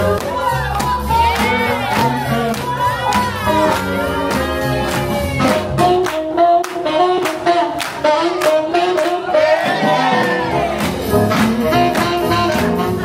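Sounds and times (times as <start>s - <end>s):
bass line: 0.0s - 13.0s
swing jazz song with singer: 0.0s - 13.0s.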